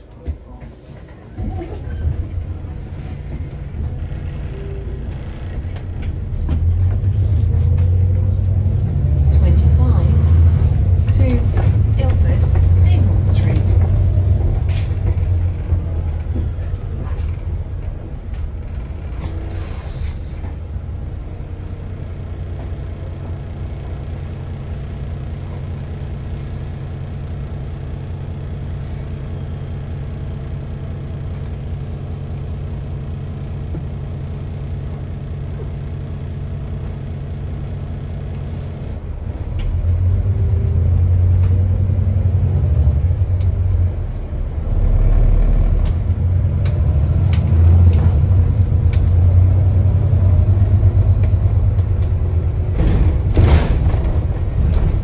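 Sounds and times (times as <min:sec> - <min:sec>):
bus engine drone: 0:00.0 - 0:55.0.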